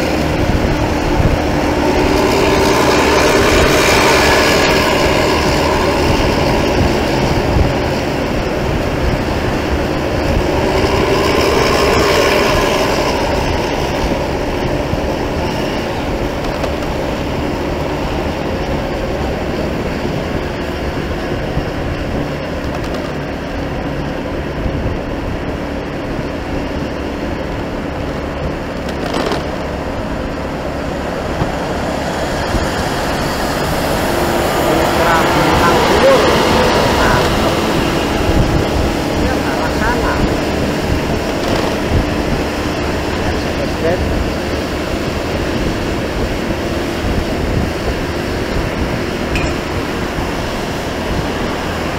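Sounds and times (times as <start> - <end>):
road and traffic rumble: 0.0 - 51.9
wind noise: 0.0 - 51.9.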